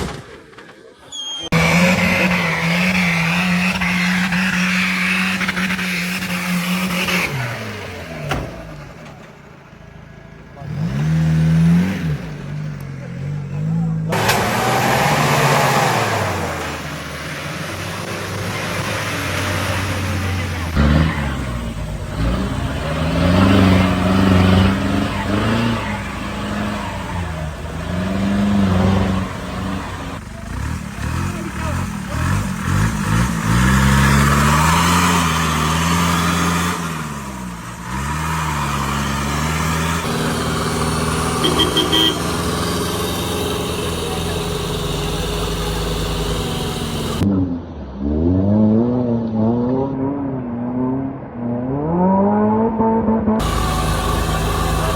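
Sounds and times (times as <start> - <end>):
off-road vehicle engine humming: 0.0 - 47.9, 52.8 - 54.9.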